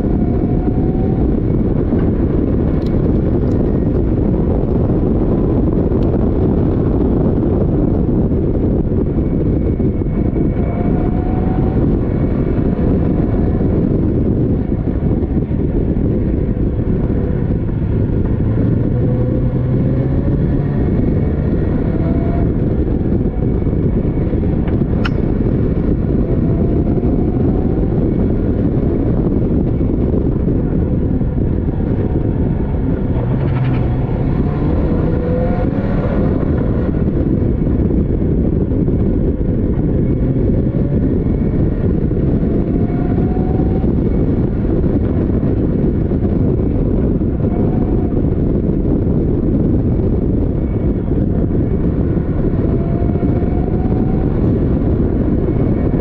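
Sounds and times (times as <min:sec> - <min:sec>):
wind and road rumble: 0:00.0 - 0:56.0
race car engine revving: 0:09.2 - 0:56.0.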